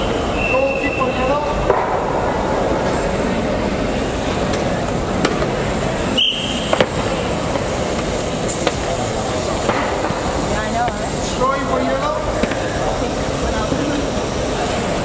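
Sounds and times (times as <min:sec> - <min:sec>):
busy hall din: 0:00.0 - 0:15.0.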